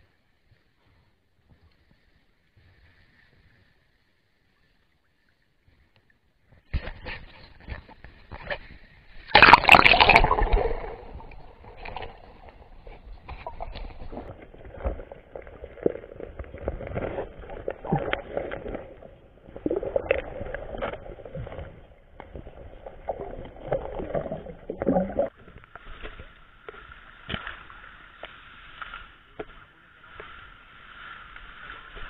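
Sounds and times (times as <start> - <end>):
churning water underwater: 0.0 - 32.0.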